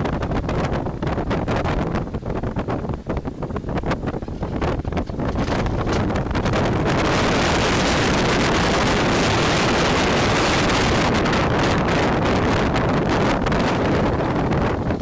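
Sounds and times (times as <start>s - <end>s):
heavy wind noise on microphone: 0.0s - 15.0s.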